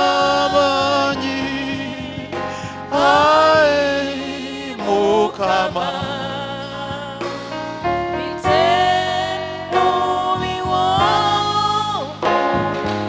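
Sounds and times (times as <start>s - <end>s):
instrumental accompaniment: 0.0s - 13.0s
person singing gospel: 0.0s - 13.0s.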